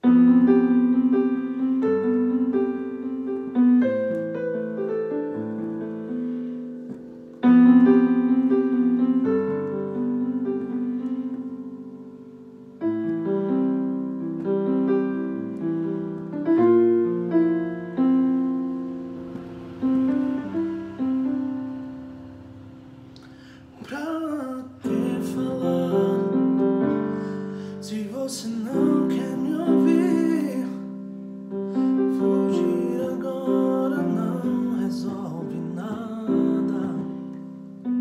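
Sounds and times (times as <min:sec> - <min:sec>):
slow piano ballad: 0:00.0 - 0:38.0.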